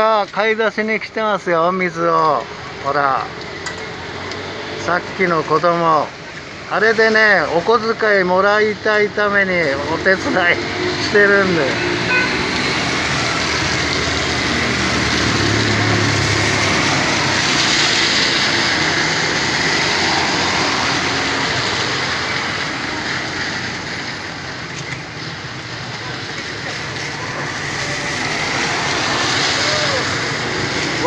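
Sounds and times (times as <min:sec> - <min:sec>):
traffic hiss on wet street: 0:00.0 - 0:31.0.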